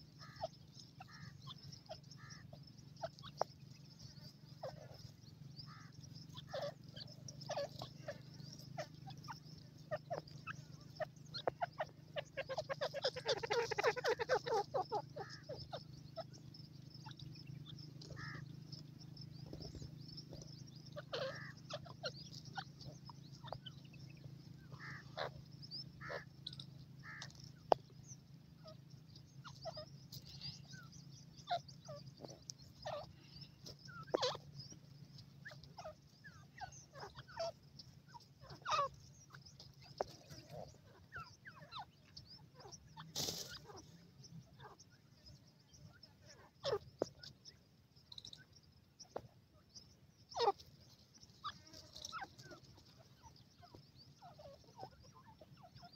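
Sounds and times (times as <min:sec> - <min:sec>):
birds chattering calls: 0:00.0 - 0:55.9.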